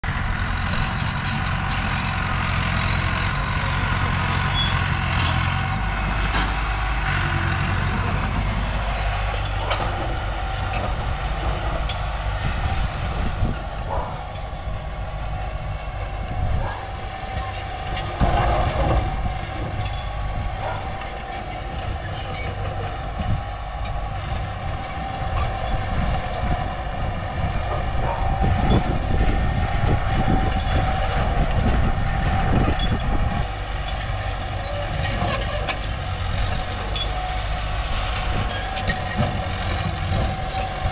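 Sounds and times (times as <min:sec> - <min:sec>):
diesel engines under load: 0:00.0 - 0:40.9.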